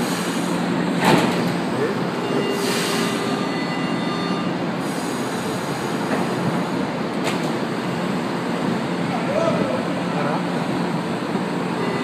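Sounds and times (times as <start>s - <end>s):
train and station noise: 0.0s - 12.0s.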